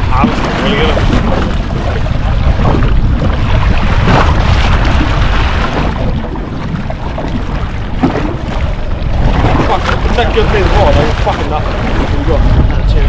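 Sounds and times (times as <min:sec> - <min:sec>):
sea water washing against boat: 0:00.0 - 0:13.0
wind buffeting microphone: 0:00.0 - 0:13.0.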